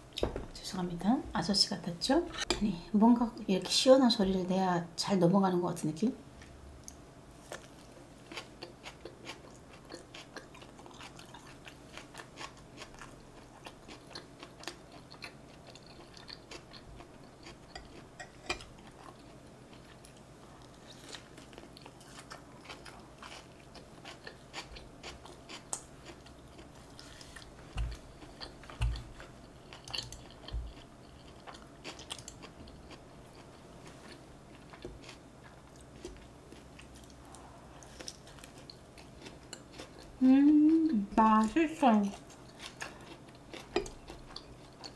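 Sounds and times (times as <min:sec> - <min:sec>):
chewing with mouth clicks: 0:06.4 - 0:44.9.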